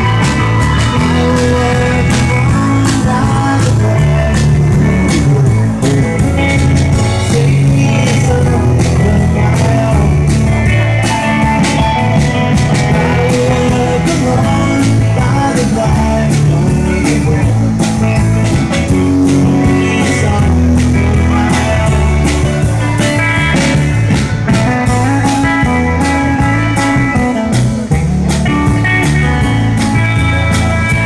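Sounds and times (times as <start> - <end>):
bass line: 0.0 - 31.0
drum kit beating: 0.0 - 31.0
electric guitar: 0.0 - 31.0.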